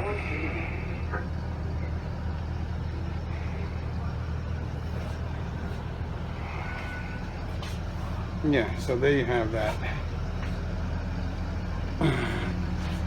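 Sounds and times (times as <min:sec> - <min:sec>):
heavy vehicle engine idling: 0:00.0 - 0:13.0.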